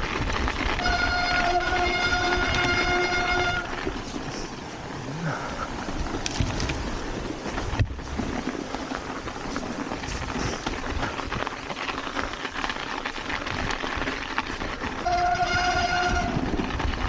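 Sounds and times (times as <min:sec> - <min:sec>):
bike rattles and knocks: 0:00.0 - 0:17.0
bike tyres on trail: 0:00.0 - 0:17.0
brakes squealing: 0:00.0 - 0:17.0.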